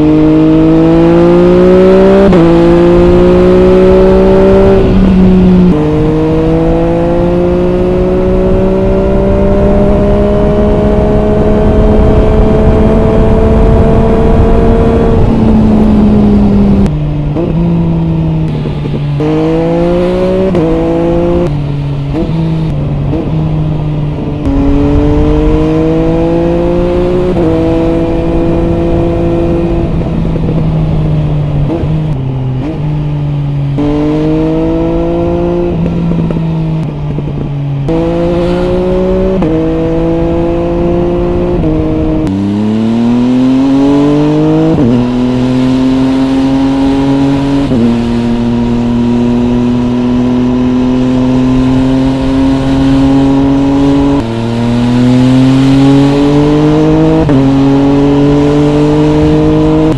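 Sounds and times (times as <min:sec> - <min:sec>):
motorcycle engine revving through gears: 0:00.0 - 0:59.9.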